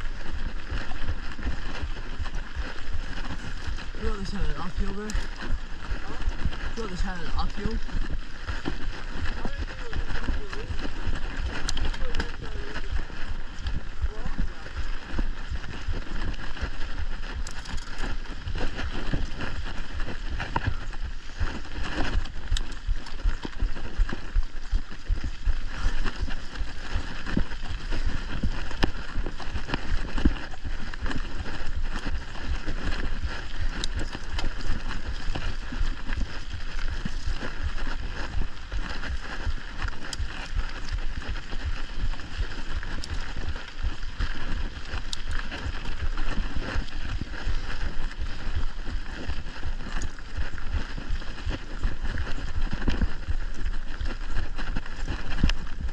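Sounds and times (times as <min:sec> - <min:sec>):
bike rattling over bumps: 0:00.0 - 0:55.9
bike tyres on dirt and leaves: 0:00.0 - 0:55.9
low wind rumble: 0:00.0 - 0:55.9.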